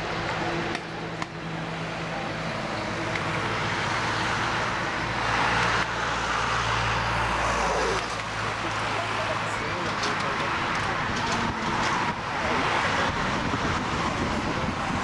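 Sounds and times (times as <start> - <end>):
jet engine rumble and whine: 0.0 - 15.0.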